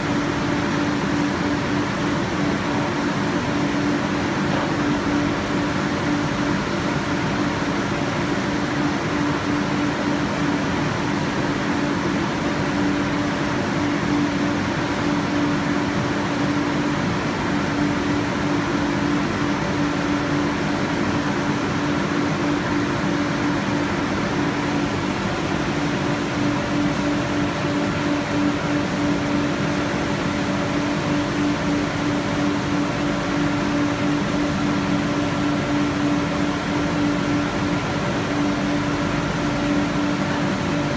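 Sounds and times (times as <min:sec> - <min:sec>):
machine mechanical hum: 0:00.0 - 0:40.9.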